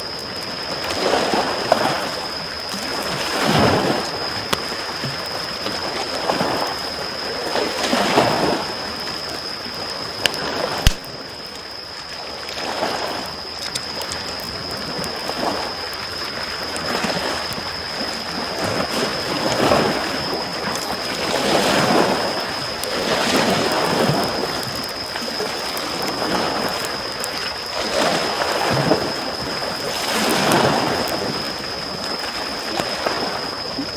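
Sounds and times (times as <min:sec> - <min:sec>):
campfire crackling: 0:00.1 - 0:33.9.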